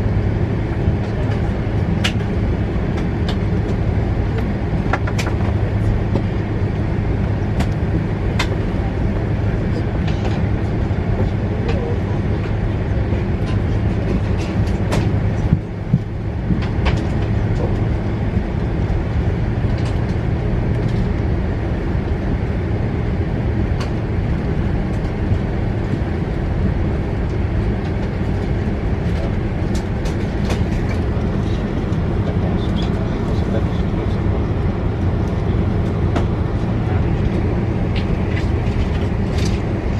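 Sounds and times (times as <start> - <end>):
vehicle interior rumble: 0.0 - 39.9.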